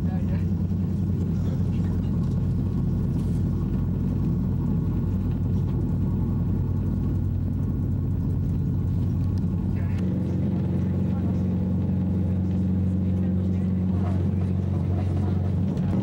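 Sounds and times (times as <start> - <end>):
train rumble and hum on board: 0.0 - 16.0.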